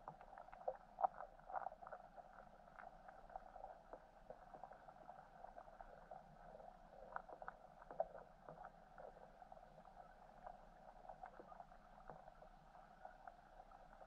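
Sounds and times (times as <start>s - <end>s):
muffled underwater hum: 0.0s - 14.0s
small clicks and ticks: 0.0s - 14.0s.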